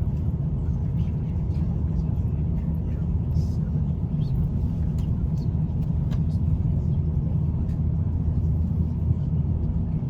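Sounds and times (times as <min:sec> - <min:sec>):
aircraft cabin low rumble: 0:00.0 - 0:10.0.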